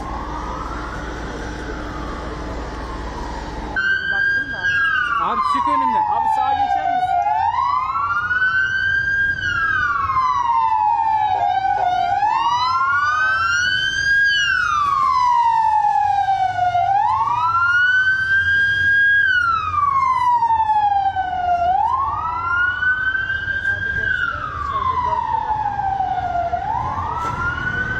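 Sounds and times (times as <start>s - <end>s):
emergency sirens wailing: 0.0s - 27.9s
vehicle engines rumbling: 0.0s - 27.9s.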